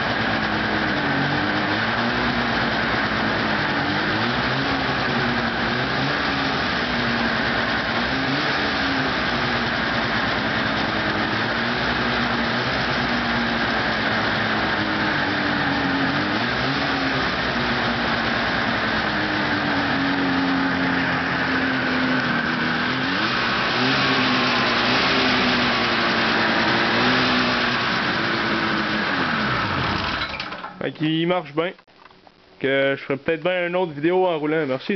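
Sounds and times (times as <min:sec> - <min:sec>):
snowmobile engine revving: 0:00.0 - 0:30.4.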